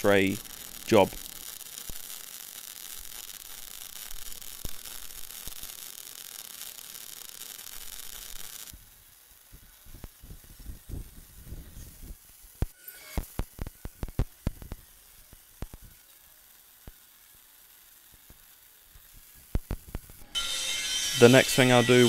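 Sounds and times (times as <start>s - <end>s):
crackling pops: 0.0s - 20.4s
welding arc hissing: 0.0s - 22.0s.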